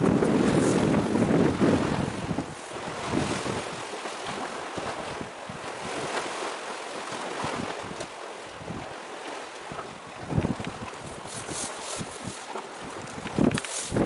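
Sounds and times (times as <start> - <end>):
wind buffeting microphone: 0.0 - 6.3, 7.1 - 9.0, 9.6 - 14.0.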